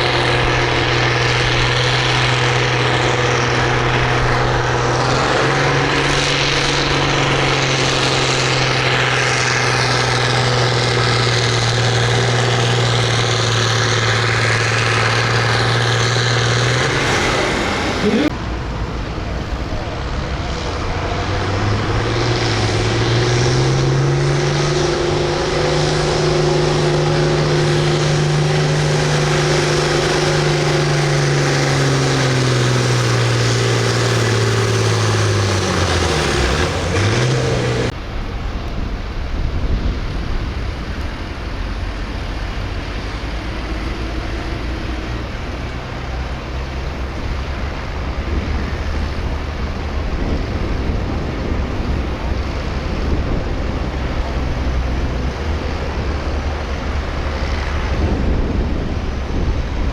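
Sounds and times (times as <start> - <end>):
tractor engine under load: 0.0 - 59.9
wind noise: 0.0 - 59.9.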